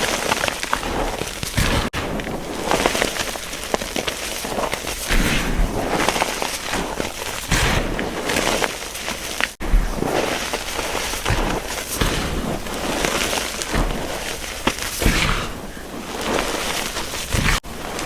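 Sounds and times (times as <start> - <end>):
chalk crunching and crumbling: 0.0 - 18.0
sharp chalk cracks: 0.0 - 18.0.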